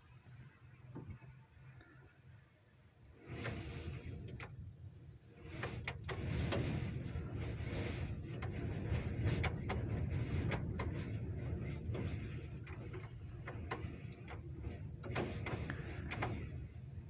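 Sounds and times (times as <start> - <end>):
gusting blizzard wind: 3.0 - 17.0
snow ticking against window: 3.0 - 17.0.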